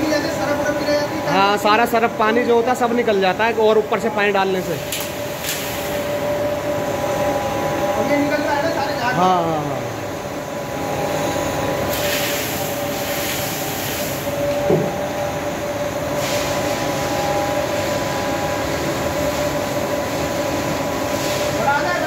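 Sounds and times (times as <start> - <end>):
spin dryer motor whine: 0.0 - 22.0.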